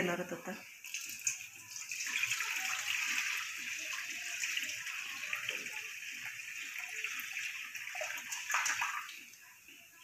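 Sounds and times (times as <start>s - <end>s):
water pouring into steel colander: 0.8s - 9.4s.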